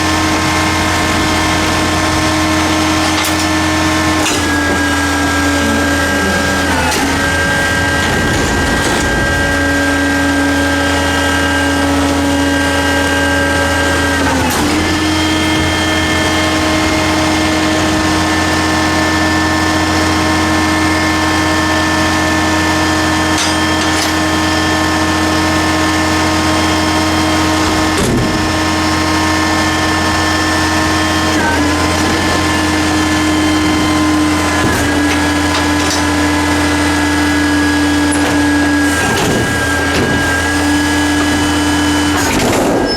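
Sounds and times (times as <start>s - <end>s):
diesel engine running: 0.0s - 42.9s
hydraulic pump whine: 0.0s - 42.9s.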